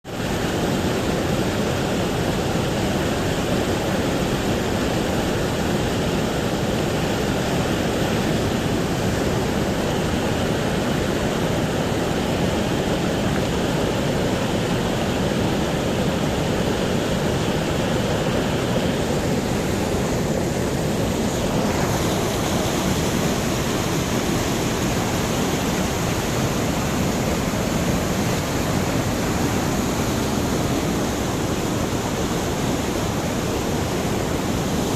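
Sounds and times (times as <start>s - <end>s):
fast-flowing water rushing: 0.0s - 34.9s.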